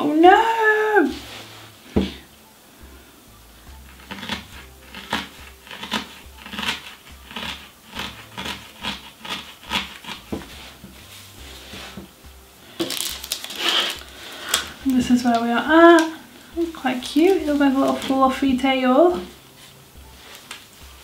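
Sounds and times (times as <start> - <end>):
handling and rubbing: 1.0 - 2.3, 3.8 - 21.0.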